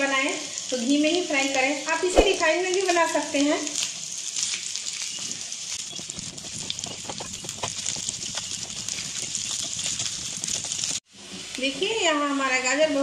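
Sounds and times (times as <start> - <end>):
carrots sizzling in a pan: 0.0 - 13.0.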